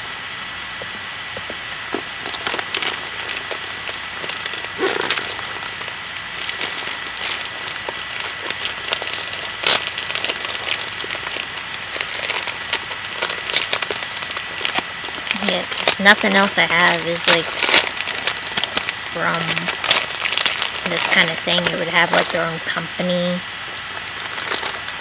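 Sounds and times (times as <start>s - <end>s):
parcel wrapping crinkling: 1.9s - 22.7s, 23.6s - 25.0s.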